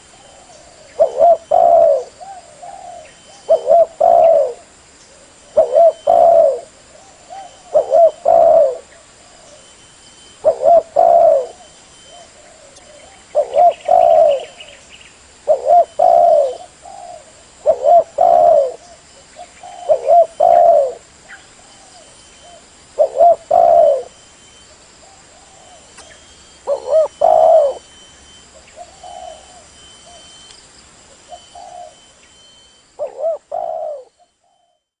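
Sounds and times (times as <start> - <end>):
dove cooing: 0.0 - 9.7, 10.3 - 14.8, 15.4 - 24.2, 25.0 - 30.4, 31.1 - 35.0.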